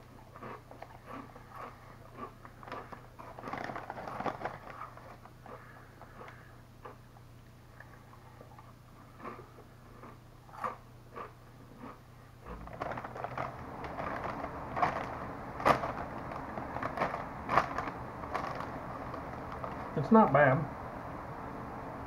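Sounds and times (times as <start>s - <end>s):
person crunching potato chips: 0.2s - 7.0s, 9.1s - 20.0s.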